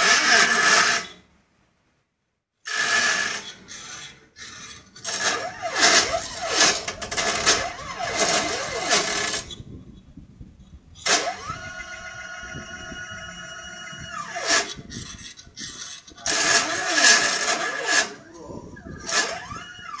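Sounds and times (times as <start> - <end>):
stepper motors whining: 2.7 - 9.6, 11.0 - 20.0.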